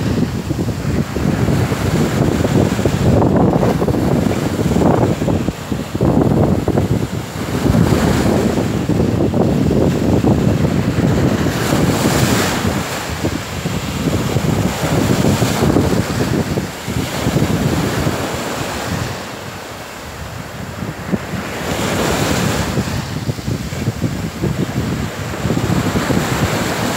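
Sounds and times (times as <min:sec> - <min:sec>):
sea waves breaking on beach: 0:00.0 - 0:26.9
wind buffeting microphone: 0:00.0 - 0:26.9.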